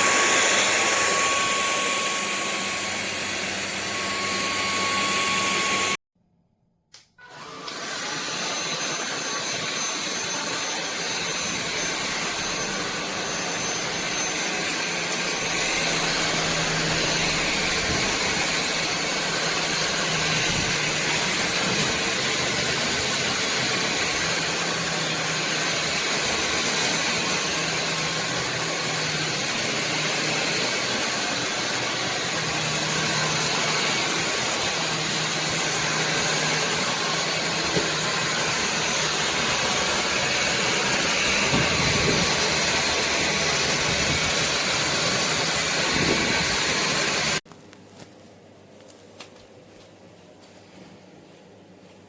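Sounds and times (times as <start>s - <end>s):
stick vacuum running: 0.0s - 6.0s, 7.0s - 47.4s.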